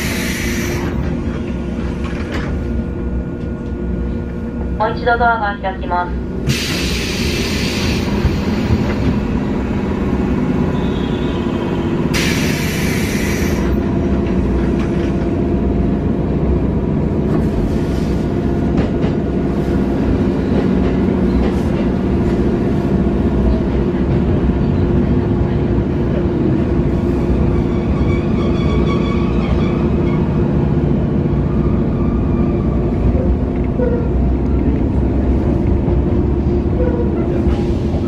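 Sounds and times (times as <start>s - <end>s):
passing train clicks and rattles: 0.0s - 38.0s
train equipment rumble and hum: 0.0s - 38.0s.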